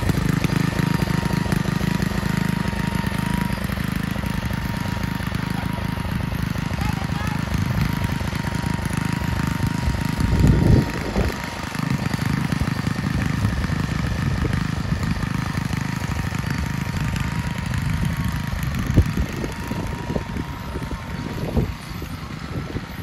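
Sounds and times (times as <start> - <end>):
ride-on lawn mower engine: 0.0 - 23.0.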